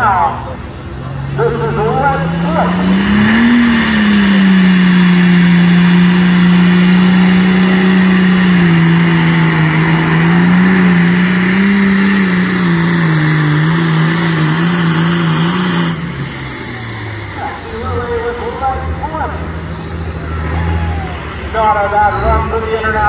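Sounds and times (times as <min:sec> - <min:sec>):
tractor engine at full throttle: 0:00.0 - 0:23.0.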